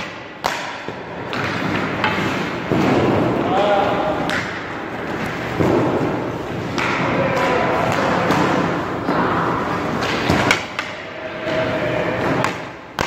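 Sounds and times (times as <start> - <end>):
hockey sticks and pucks clacking: 0.0 - 13.0.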